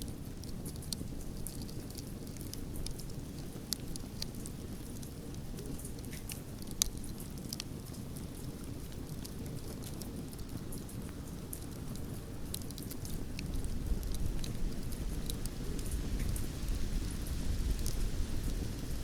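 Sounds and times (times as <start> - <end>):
burning wood crackling and popping: 0.0 - 19.0
fire flames rumbling: 0.0 - 19.0.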